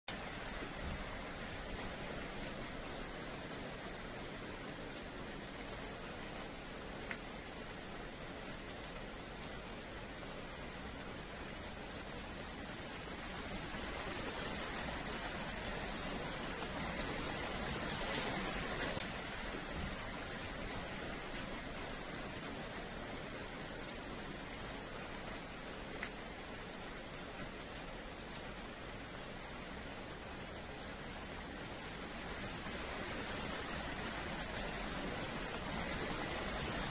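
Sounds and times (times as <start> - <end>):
rain on wet paving: 0.1 - 36.9.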